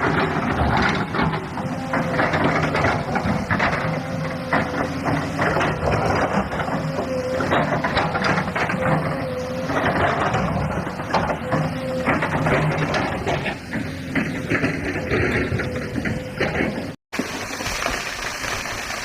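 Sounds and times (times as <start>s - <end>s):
hydraulic whine: 0.0s - 17.0s
diesel engine under load: 0.0s - 19.0s.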